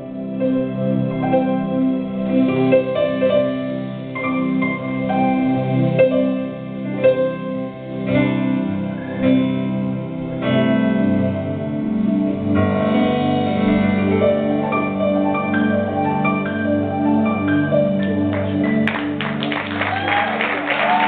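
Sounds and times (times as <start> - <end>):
keyboard playing slow chords: 0.0 - 21.0.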